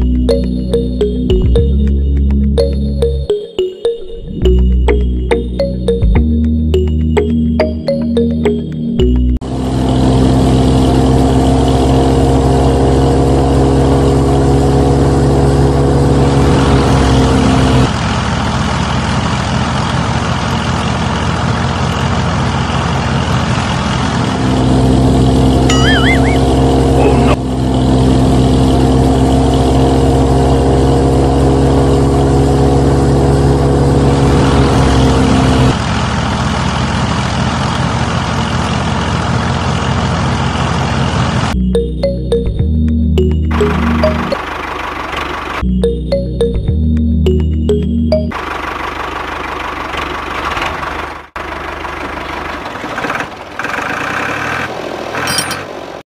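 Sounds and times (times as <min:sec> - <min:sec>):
engine running with low throb: 0:00.0 - 0:55.7.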